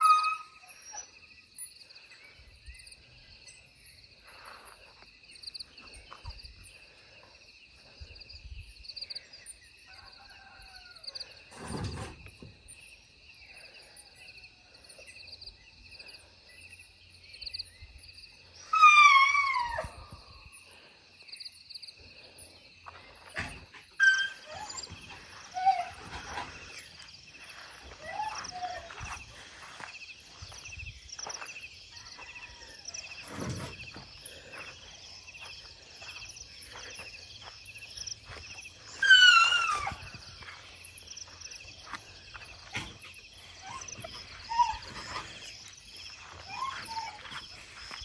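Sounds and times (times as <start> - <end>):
insects trilling: 0.0 - 48.0.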